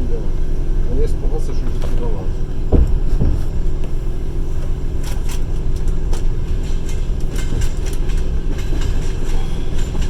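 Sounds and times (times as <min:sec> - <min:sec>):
train wheels rumbling on rails: 0:00.0 - 0:10.0
wheels clicking over rail joints: 0:01.6 - 0:10.0.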